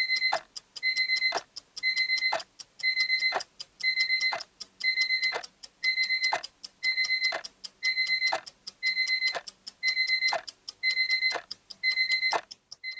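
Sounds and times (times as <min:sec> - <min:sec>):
timer alarm rapid high beeps: 0:00.0 - 0:12.9.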